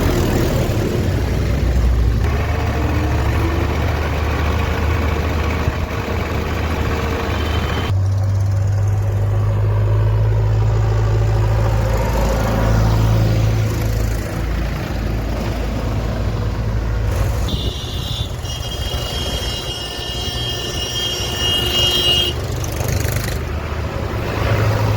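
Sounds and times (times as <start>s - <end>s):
diesel machinery engines: 0.0s - 24.9s.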